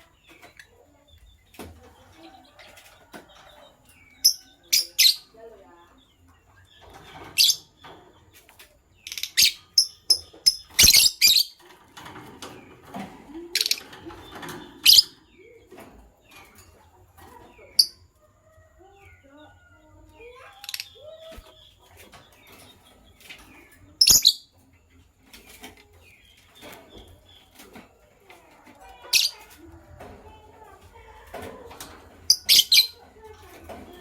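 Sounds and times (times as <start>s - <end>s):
lovebirds chirping: 0.0s - 34.0s.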